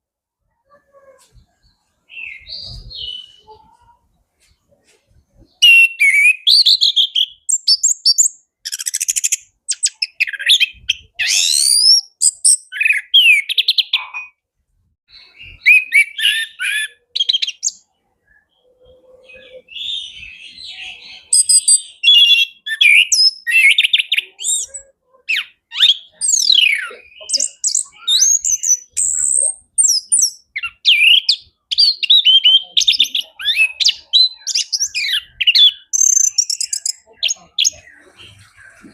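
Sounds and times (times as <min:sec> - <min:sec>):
thrush singing whistled phrases: 0:02.1 - 0:03.7, 0:05.6 - 0:14.4, 0:15.1 - 0:17.8, 0:19.4 - 0:38.9.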